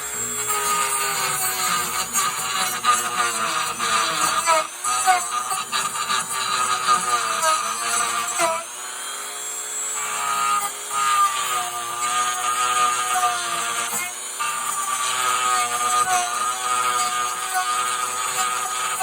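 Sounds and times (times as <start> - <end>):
rotary tool carving wood: 0.0 - 19.0.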